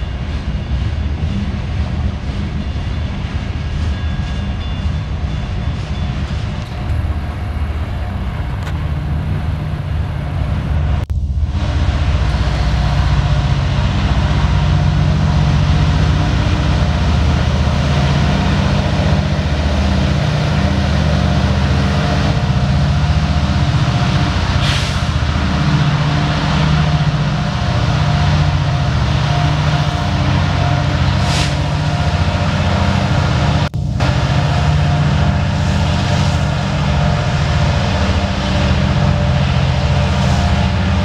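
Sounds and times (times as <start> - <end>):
train rolling past rumbling: 0.0 - 41.0.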